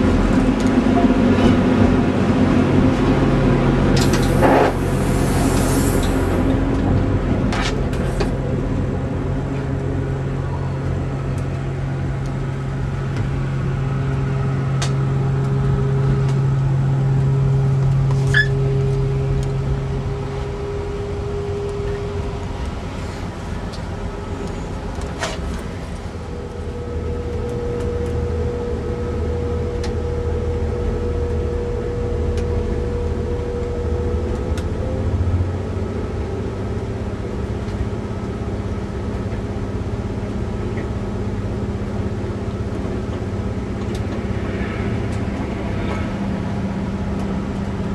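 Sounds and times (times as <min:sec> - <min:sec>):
diesel engine hum: 0:00.0 - 0:47.9
train wheels rumbling on rails: 0:00.0 - 0:47.9
high steady whine: 0:02.0 - 0:47.9.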